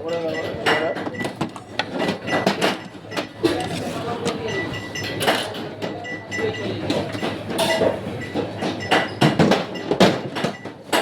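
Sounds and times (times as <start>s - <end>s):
utensils and dishes clinking: 0.0s - 11.0s.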